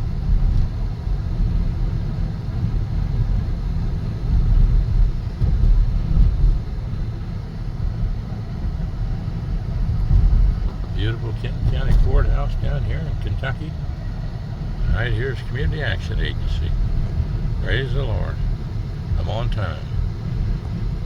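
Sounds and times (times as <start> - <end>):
car driving interior rumble: 0.0 - 21.0.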